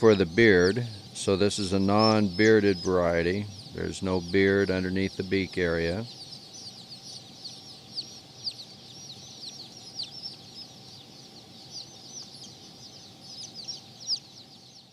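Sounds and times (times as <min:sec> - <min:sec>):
chickens peeping: 0:00.0 - 0:14.9.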